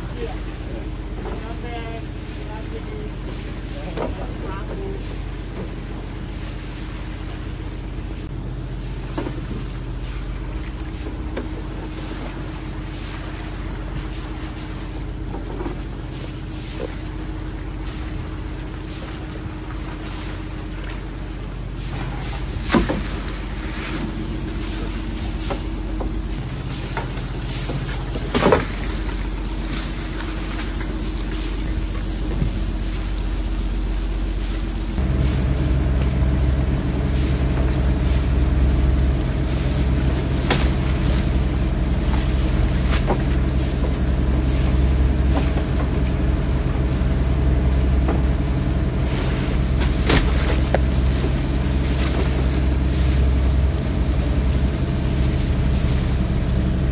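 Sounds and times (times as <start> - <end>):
boat engine humming: 0.0 - 56.9.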